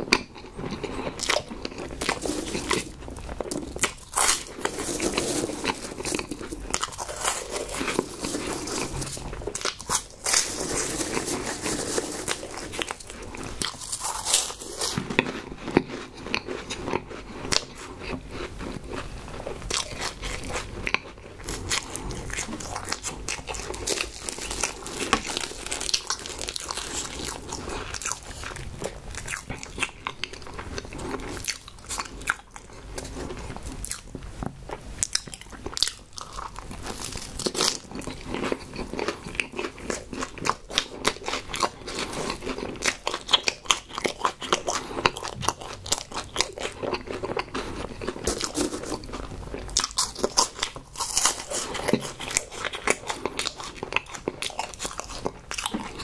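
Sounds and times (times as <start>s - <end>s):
man crunching snacks: 0.0s - 34.2s, 35.0s - 56.0s.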